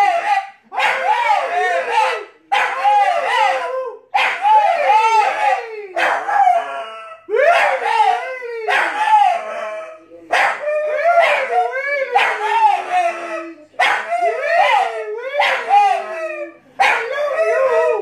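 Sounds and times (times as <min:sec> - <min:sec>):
dog howling: 0:00.0 - 0:18.0.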